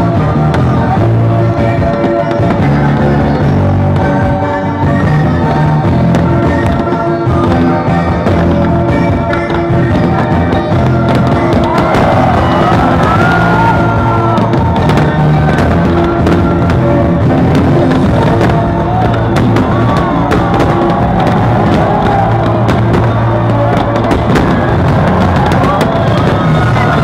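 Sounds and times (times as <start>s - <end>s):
fireworks popping and crackling: 0.0s - 27.0s
loud music: 0.0s - 27.0s.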